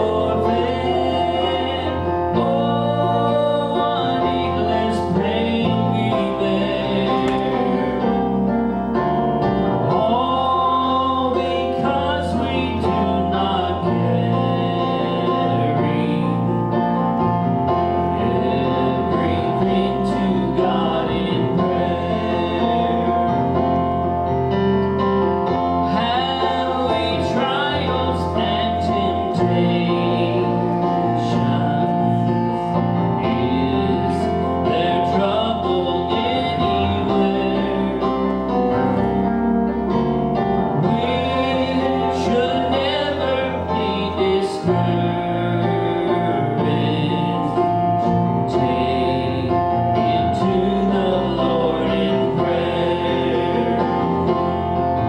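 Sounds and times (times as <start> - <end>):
bass line: 0.0 - 55.0
voices singing gospel music: 0.0 - 55.0.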